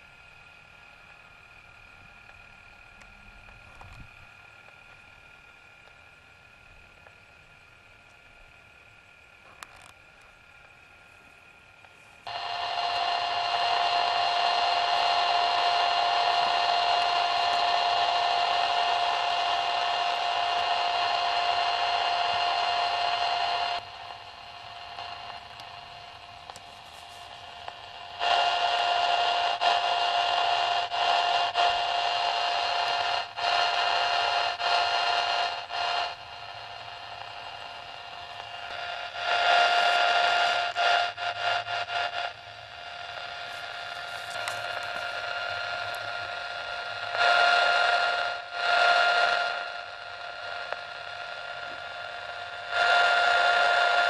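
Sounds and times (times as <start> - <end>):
radio receiver hiss: 0.0 - 54.0
steady pitched buzz: 0.0 - 54.0.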